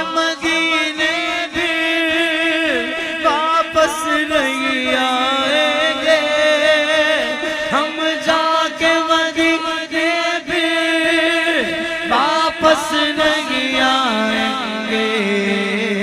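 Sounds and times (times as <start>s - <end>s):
hummed vocal drone: 0.0s - 16.0s
man singing melismatic notes: 0.0s - 16.0s.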